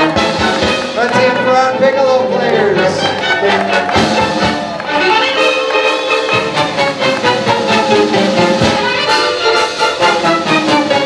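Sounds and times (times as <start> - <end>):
brass: 0.0 - 11.0
strings: 0.0 - 11.0.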